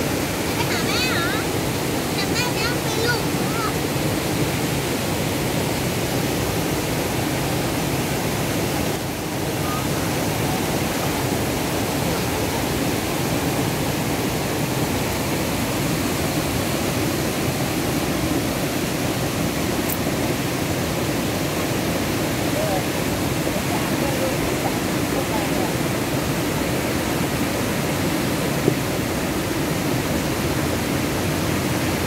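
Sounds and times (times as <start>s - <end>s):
stream rushing over rock: 0.0s - 32.0s.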